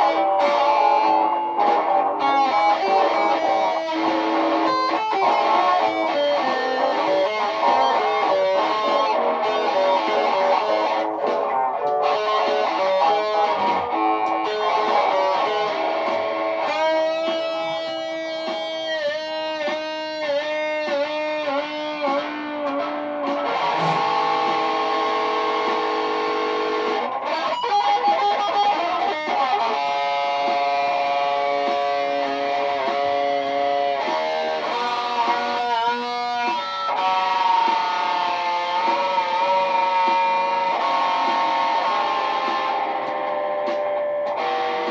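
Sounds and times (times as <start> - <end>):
electric guitar looped phrases: 0.0 - 44.9.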